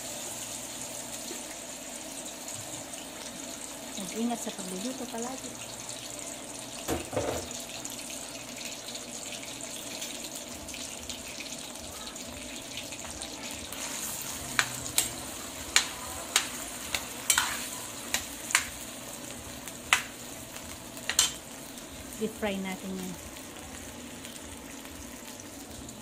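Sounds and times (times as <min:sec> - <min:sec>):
potatoes sizzling in hot oil: 0:00.0 - 0:26.0.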